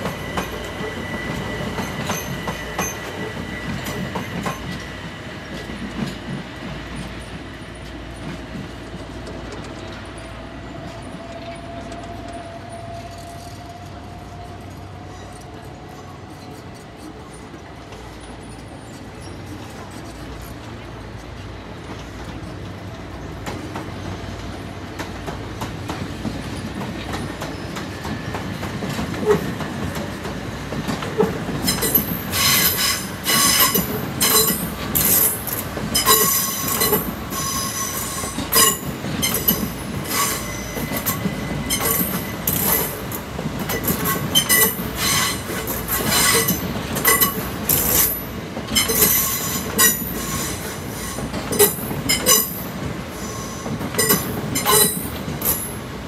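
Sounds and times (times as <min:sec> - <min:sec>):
train rumbling over track: 0:00.0 - 0:56.0
wheels squealing on rails: 0:00.0 - 0:56.0.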